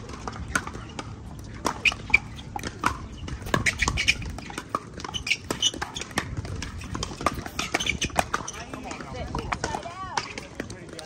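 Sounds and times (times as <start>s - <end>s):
paddles hitting a plastic ball: 0.0s - 11.0s.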